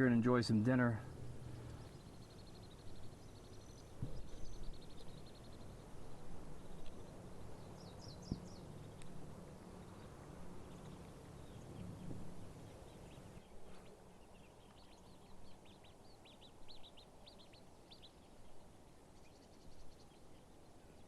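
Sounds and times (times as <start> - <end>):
bird chirps: 1.5 - 9.0, 9.8 - 21.0.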